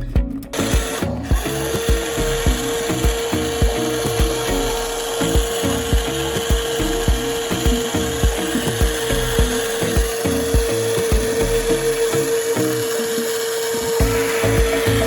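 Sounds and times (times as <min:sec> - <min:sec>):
background music with beat: 0:00.0 - 0:13.2, 0:13.9 - 0:15.0
small electric motor whining: 0:00.0 - 0:15.0.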